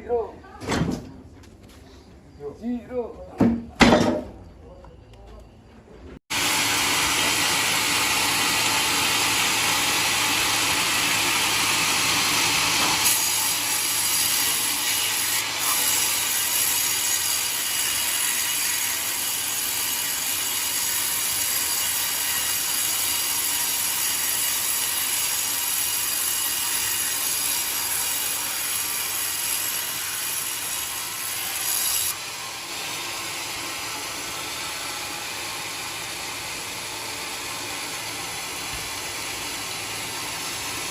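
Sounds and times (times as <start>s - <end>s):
sawmill blade cutting log: 6.3s - 40.9s.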